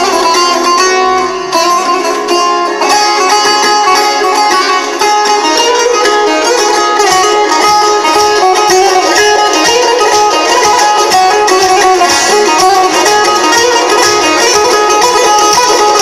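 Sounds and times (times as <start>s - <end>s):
plucked string instrument melody: 0.0s - 16.0s.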